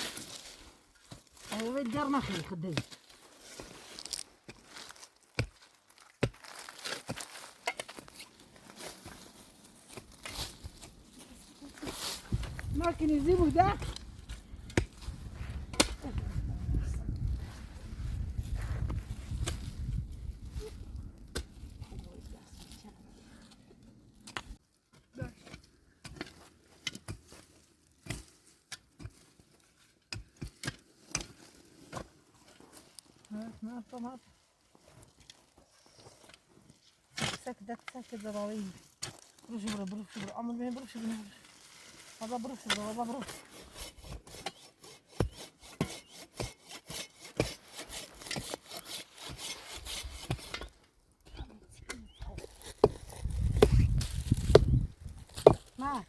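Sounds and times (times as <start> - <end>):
rustling and crinkling: 0.0 - 24.7, 26.2 - 44.3, 47.6 - 56.0.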